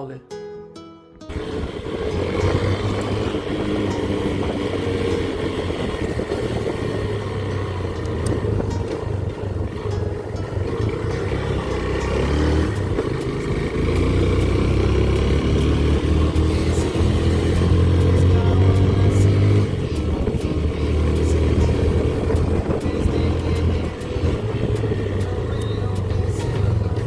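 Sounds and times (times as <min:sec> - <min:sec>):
low wind rumble: 0:01.3 - 0:27.0
motorcycle engine running: 0:01.3 - 0:27.0.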